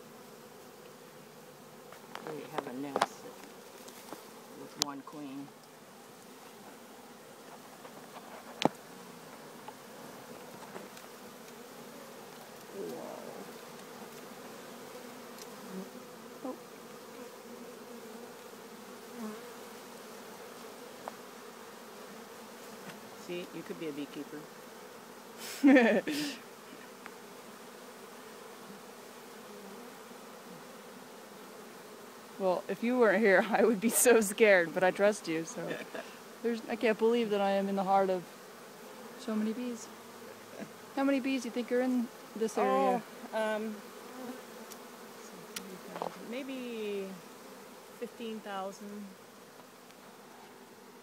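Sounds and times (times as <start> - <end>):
honeybees buzzing: 0.0 - 51.0.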